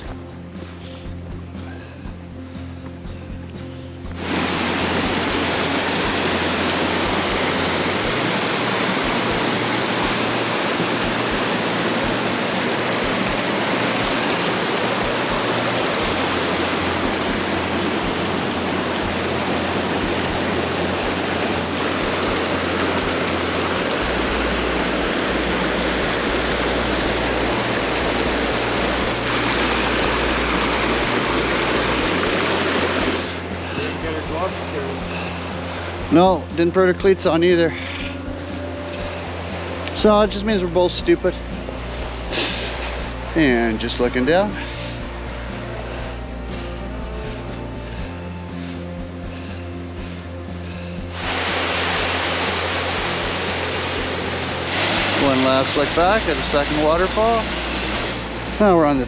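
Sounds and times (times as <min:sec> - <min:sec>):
rushing creek water roar: 0:00.0 - 0:59.0.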